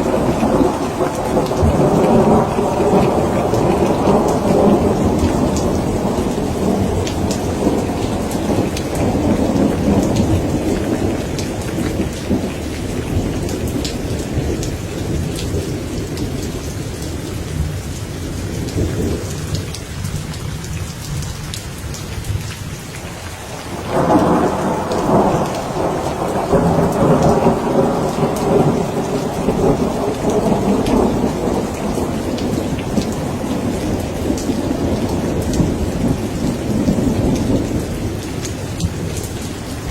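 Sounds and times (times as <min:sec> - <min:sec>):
rolling thunder: 0:00.0 - 0:21.3, 0:23.5 - 0:39.9
heavy rain pattering: 0:00.0 - 0:39.9.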